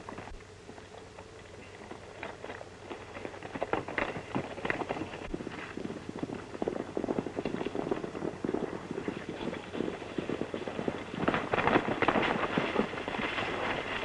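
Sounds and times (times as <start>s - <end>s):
horses hoofbeats clattering: 0.0s - 14.0s.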